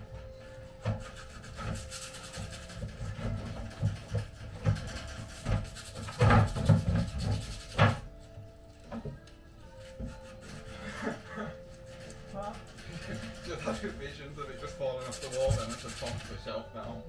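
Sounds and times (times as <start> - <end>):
wood scraping and knocking: 0.1 - 17.0.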